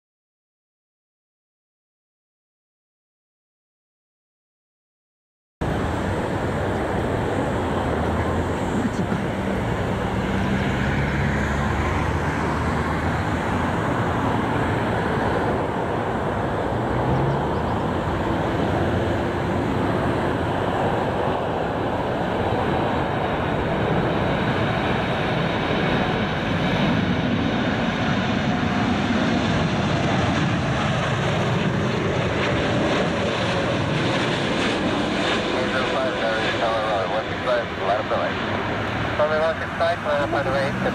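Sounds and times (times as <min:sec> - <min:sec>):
jet engine noise: 0:05.6 - 0:40.9.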